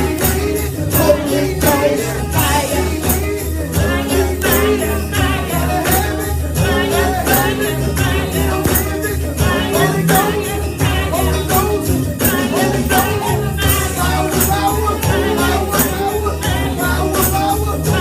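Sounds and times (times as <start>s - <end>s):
band with bass and beat: 0.0s - 18.0s
tambourine jingling: 0.0s - 18.0s
voices singing: 0.0s - 18.0s.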